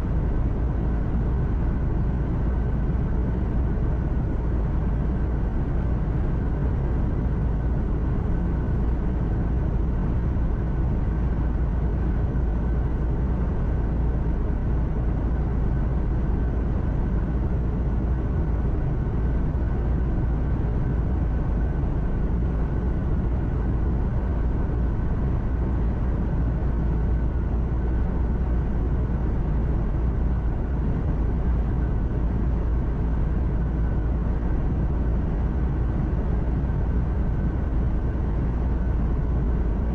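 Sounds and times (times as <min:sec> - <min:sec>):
diesel truck engine drone: 0:00.0 - 0:39.9
faint steady whine: 0:00.0 - 0:39.9.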